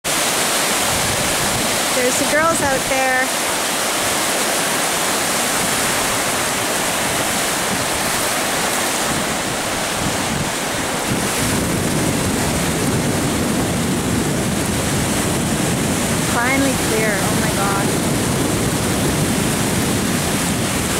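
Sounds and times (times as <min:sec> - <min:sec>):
ocean surf breaking on beach: 0:00.0 - 0:20.9
wind on microphone: 0:00.1 - 0:20.9.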